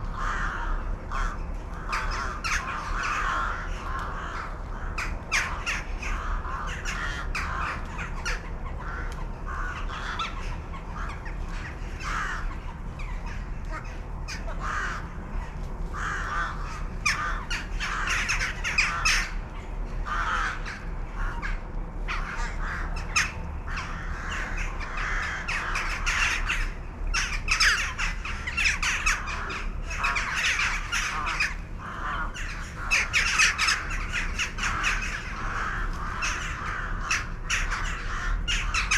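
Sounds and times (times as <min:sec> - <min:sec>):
flock of birds calling: 0:00.0 - 0:38.9.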